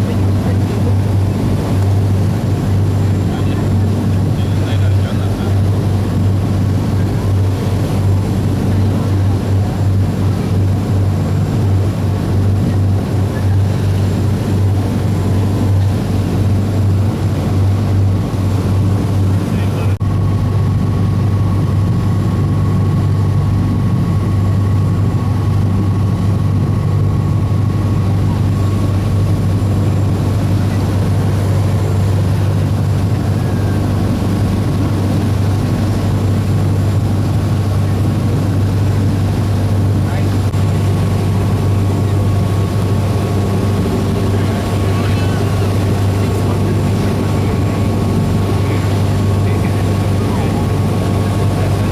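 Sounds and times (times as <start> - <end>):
rushing wind: 0.0 - 51.9
ship engines droning: 0.0 - 51.9
water noise: 0.0 - 51.9.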